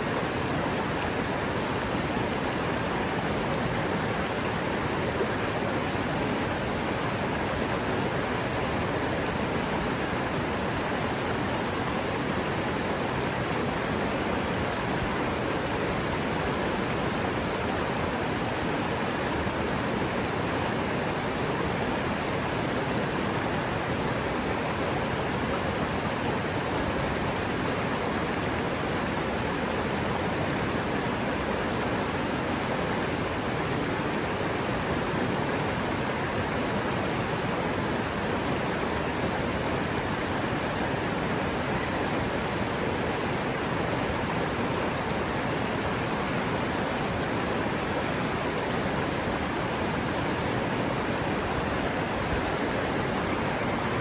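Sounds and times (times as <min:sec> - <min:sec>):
river water running over rocks: 0:00.0 - 0:54.0.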